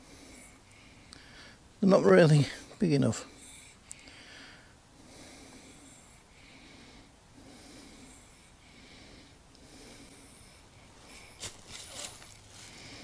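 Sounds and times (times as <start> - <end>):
man breathing: 0.0 - 1.7, 2.5 - 13.0.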